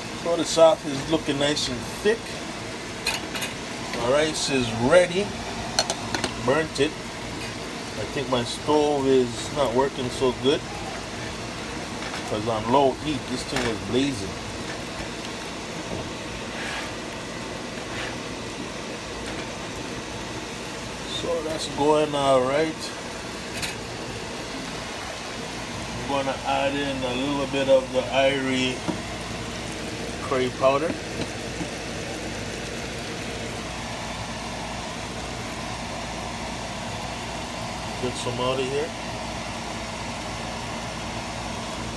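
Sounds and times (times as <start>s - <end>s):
kitchen background hum: 0.0s - 41.9s
sauce bubbling and hissing: 0.0s - 41.9s.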